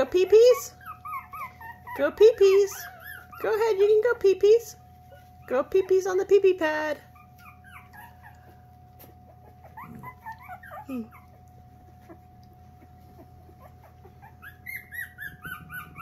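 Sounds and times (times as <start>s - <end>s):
puppies whimpering and crying: 0.0s - 16.0s.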